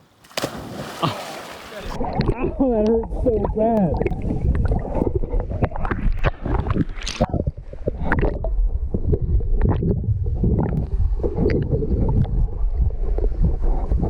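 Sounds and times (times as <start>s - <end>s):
water splashing and sloshing: 0.0s - 12.4s.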